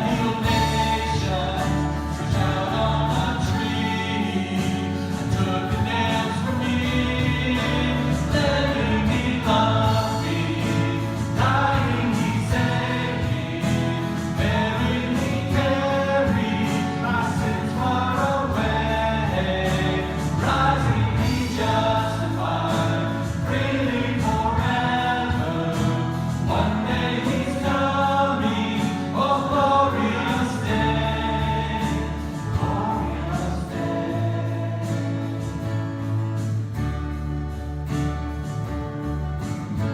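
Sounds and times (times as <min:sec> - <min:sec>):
congregation singing a hymn: 0:00.0 - 0:36.6
instrumental accompaniment: 0:00.0 - 0:39.9.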